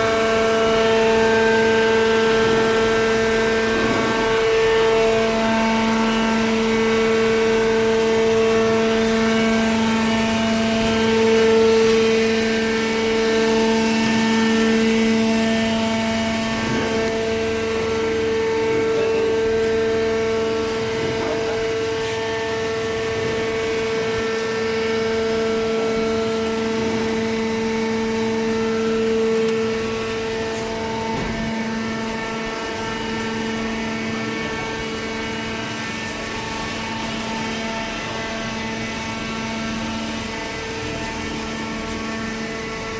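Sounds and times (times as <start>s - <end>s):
hydraulic baler motor humming: 0.0s - 42.9s.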